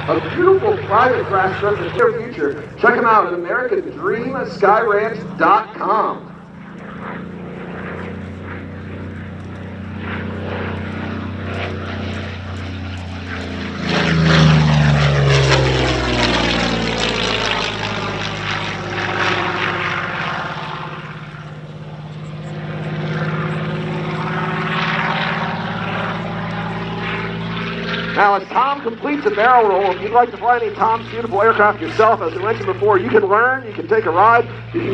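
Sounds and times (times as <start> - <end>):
propeller plane engine flying by: 0.0 - 34.9.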